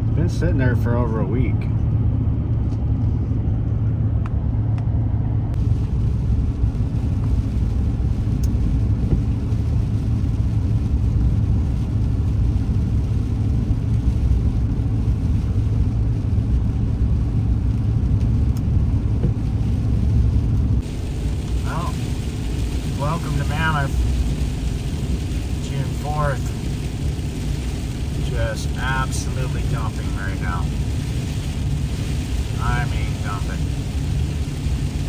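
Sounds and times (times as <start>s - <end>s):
road and engine noise in cabin: 0.0s - 35.0s.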